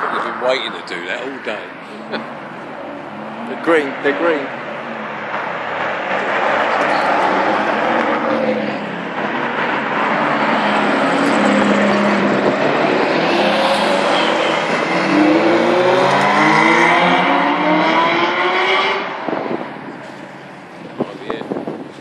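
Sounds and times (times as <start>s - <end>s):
sports car engines accelerating: 0.0s - 21.8s.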